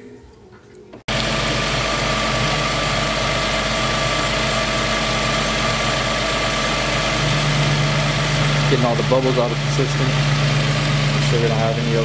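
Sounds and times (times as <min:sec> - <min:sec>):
car engine idling: 0:01.1 - 0:12.0.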